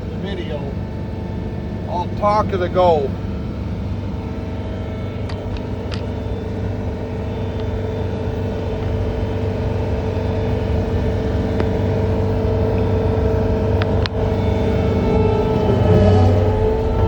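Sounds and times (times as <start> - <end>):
skid steer engine droning: 0.0 - 17.0.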